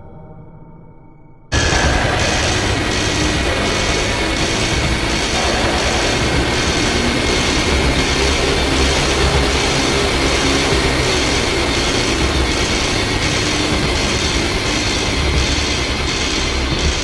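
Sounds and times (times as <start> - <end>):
dark industrial music: 1.5 - 17.0.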